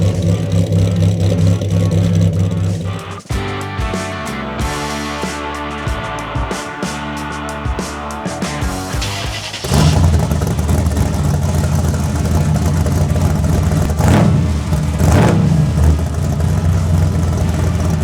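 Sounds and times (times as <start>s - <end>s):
engine idling with choppy beat: 0.0s - 18.0s.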